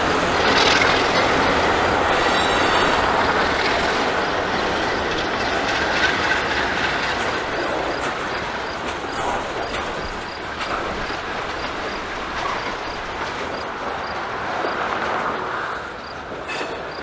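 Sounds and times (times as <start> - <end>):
freight car clacks: 0.0 - 17.0
steel wheels rumbling on rail: 0.0 - 17.0.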